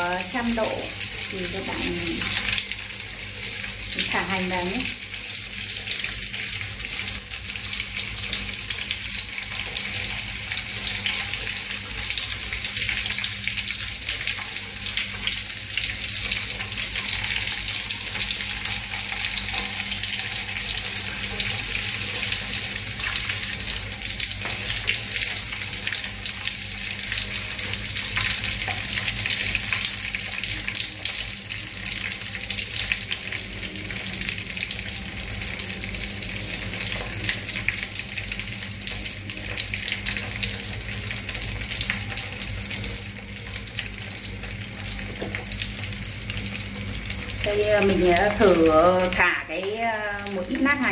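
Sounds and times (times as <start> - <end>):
hot oil sizzling in a wok: 0.0 - 50.9.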